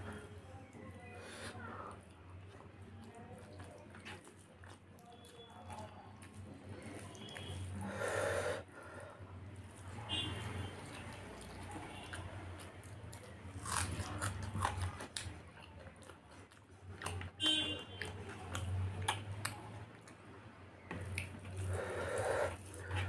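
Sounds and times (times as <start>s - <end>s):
wet chewing and smacking: 0.0s - 8.7s, 9.5s - 23.0s.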